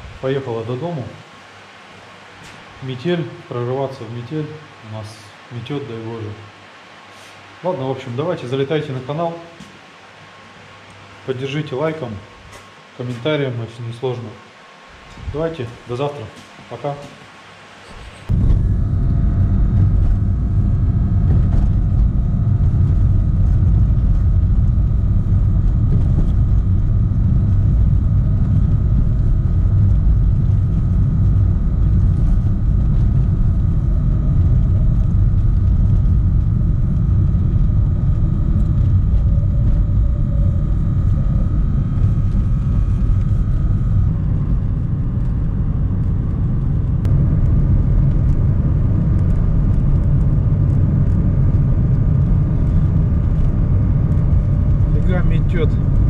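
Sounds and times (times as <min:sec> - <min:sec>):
faint steady whine: 0:00.0 - 0:56.0.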